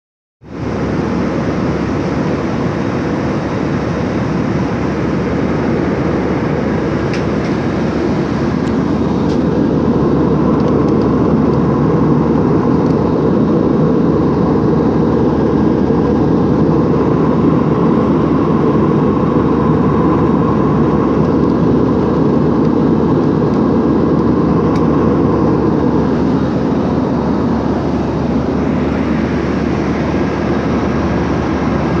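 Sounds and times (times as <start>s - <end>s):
airliner cabin engine noise: 0.4s - 32.0s.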